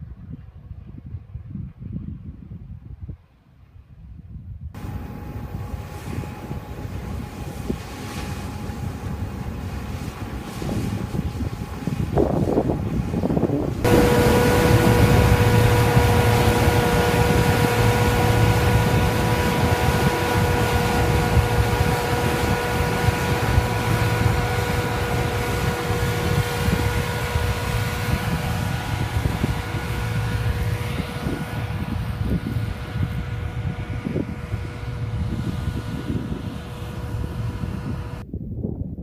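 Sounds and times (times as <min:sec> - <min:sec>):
wind buffeting microphone: 0:00.0 - 0:39.0
combine harvester running: 0:04.8 - 0:38.2.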